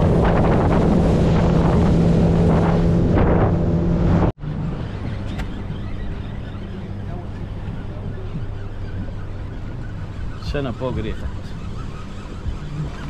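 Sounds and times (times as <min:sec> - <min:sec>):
boat engine hum: 0:00.0 - 0:13.0
rushing wind and water: 0:00.0 - 0:13.0.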